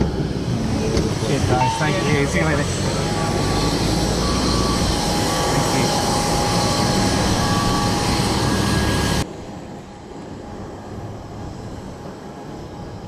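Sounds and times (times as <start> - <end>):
jet aircraft whine and rumble: 0.0 - 13.0
outdoor background noise: 0.0 - 13.0.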